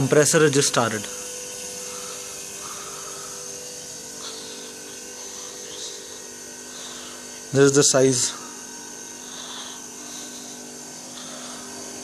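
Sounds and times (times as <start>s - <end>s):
dehumidifier compressor hum: 0.0s - 12.0s.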